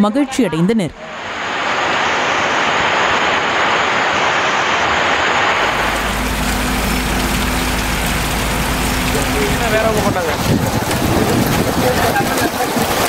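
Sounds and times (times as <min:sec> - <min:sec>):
low hum: 0:00.9 - 0:11.6
heavy rain pouring: 0:01.0 - 0:13.0.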